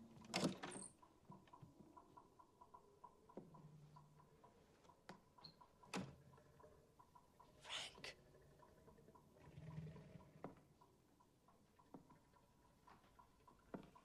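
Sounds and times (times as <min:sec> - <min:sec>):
faint ticking: 0:00.0 - 0:14.0.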